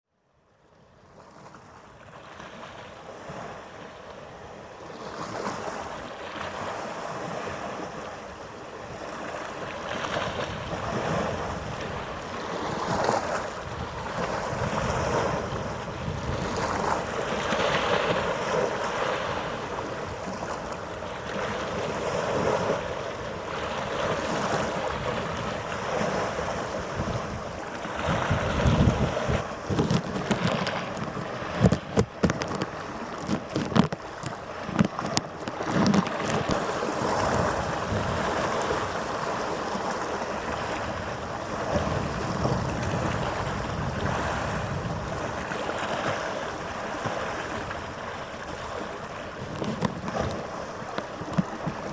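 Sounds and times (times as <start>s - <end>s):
wind buffeting microphone: 6.6s - 51.9s.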